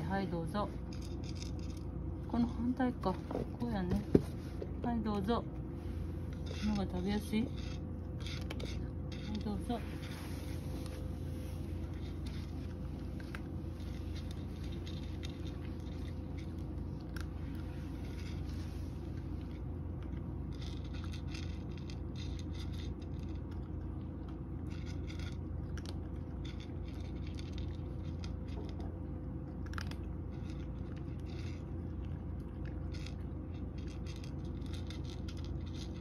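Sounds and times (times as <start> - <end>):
steady low hum: 0.0 - 36.0
cat crunching food: 0.7 - 2.3, 5.5 - 36.0.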